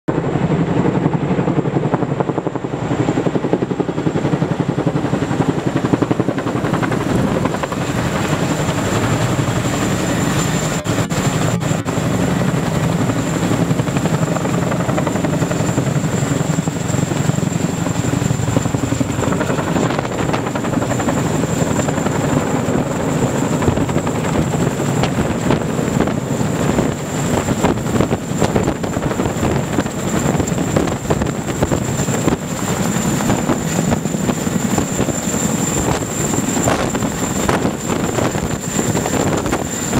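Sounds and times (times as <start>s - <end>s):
helicopter rotor chop: 0.1s - 39.9s.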